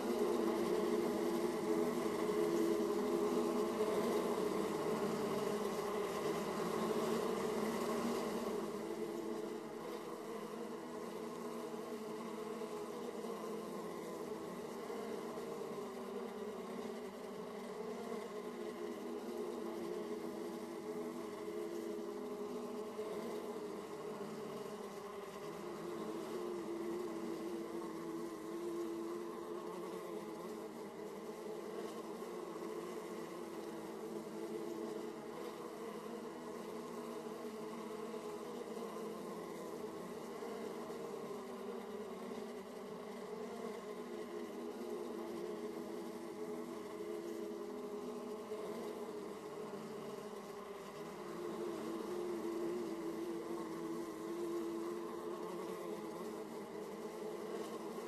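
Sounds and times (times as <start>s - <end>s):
bees humming: 0.0s - 58.0s.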